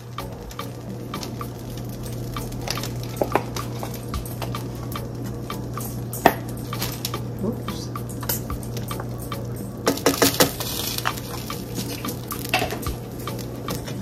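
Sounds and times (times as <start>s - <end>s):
butter sizzling in a frying pan: 0.0s - 14.0s
crackles and pops: 0.0s - 14.0s.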